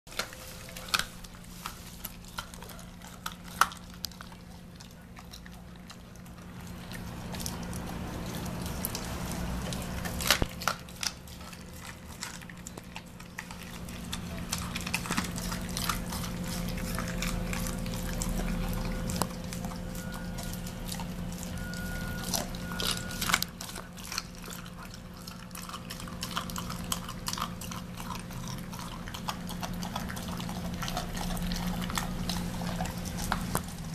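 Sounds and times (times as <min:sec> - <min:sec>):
dog chewing bone: 0:00.1 - 0:33.9
low steady hum: 0:00.1 - 0:33.9.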